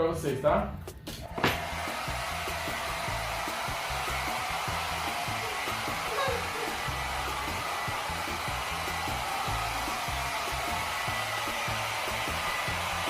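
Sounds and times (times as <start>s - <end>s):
hair dryer blowing: 1.2s - 13.0s.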